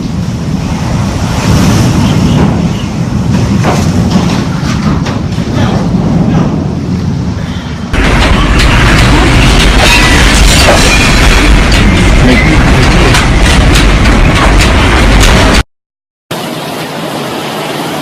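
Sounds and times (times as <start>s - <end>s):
strong wind buffeting microphone: 0.0s - 15.6s.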